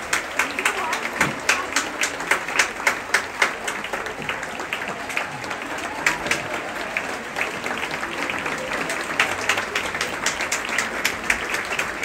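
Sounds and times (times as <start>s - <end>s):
audience applauding: 0.0s - 12.0s
sharp nearby claps: 0.0s - 12.0s.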